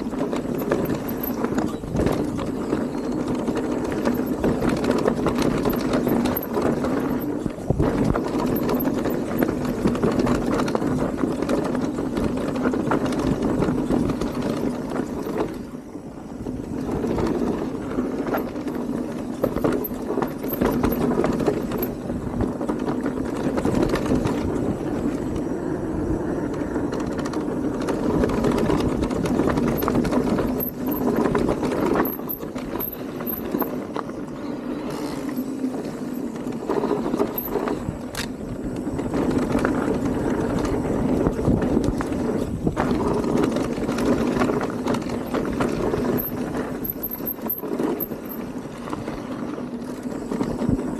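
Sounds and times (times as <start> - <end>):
bike rattling and knocking: 0.0 - 25.7, 26.4 - 50.9
bike tyres rolling on dirt: 0.0 - 50.9.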